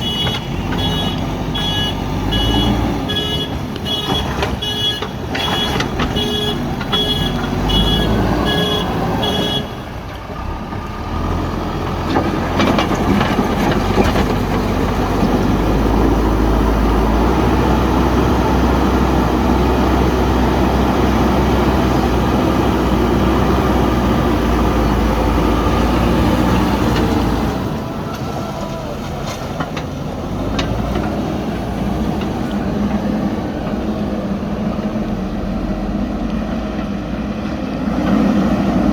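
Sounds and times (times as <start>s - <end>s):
diesel engine working under load: 0.0s - 38.9s.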